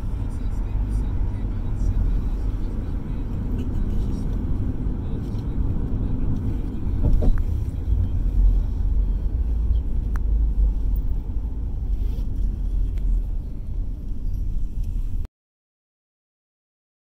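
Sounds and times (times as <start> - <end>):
car road and engine rumble: 0.0 - 15.3.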